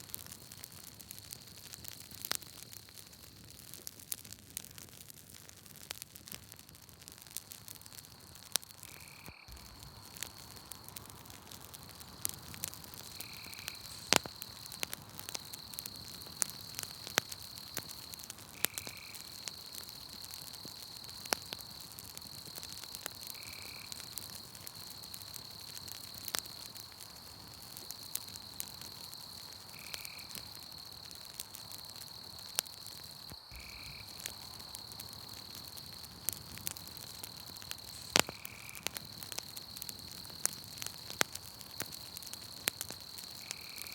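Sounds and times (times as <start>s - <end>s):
campfire crackling and popping: 0.0s - 43.9s
insect trill: 7.7s - 43.9s.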